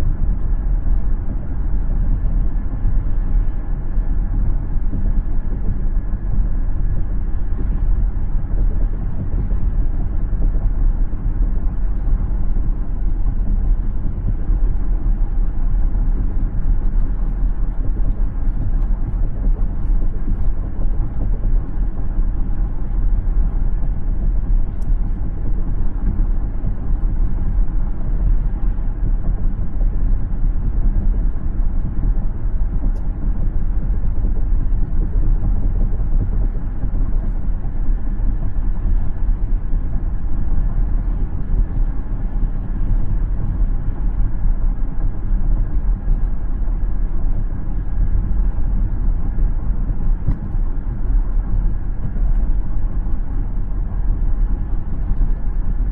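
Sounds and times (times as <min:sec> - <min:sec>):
car road noise rumble: 0:00.0 - 0:55.9.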